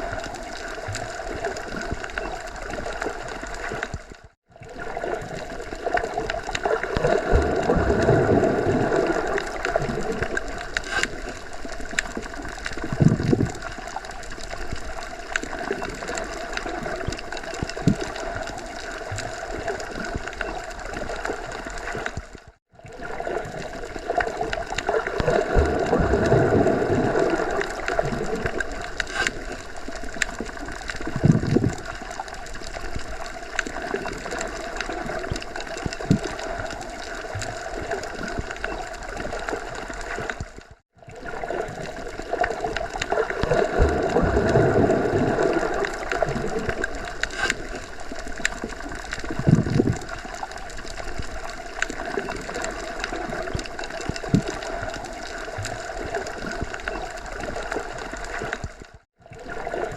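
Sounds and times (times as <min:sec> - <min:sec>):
underwater water noise: 0:00.0 - 0:59.9.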